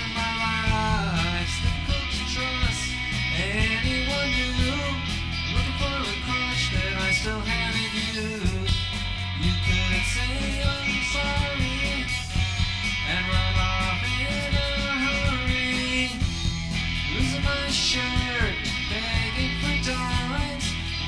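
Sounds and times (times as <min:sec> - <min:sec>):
bass guitar: 0:00.0 - 0:21.0
drum kit: 0:00.0 - 0:21.0
electric guitar: 0:00.0 - 0:21.0.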